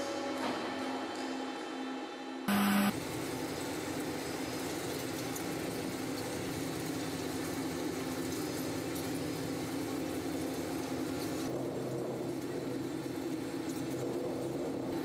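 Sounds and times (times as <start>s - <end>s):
factory machinery hum and hiss: 0.0s - 15.0s.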